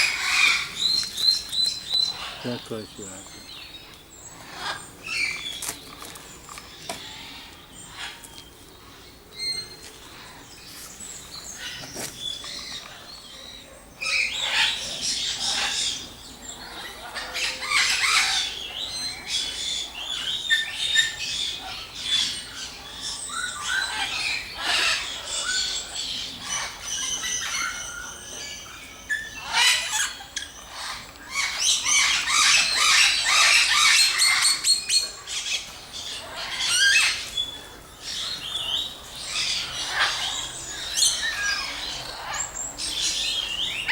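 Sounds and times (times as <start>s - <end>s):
birds chirping and squawking: 0.0s - 43.9s.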